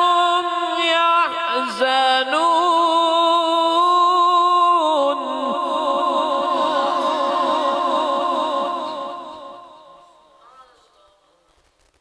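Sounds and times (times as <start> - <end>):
person reciting melodically: 0.0 - 10.2.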